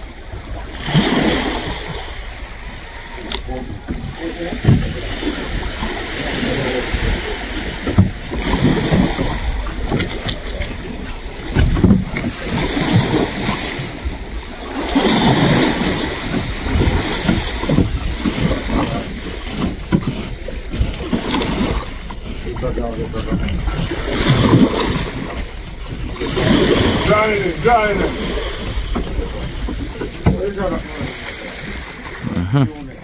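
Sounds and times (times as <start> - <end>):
wind buffeting microphone: 0.0 - 32.3
surf washing onto beach: 0.0 - 33.0.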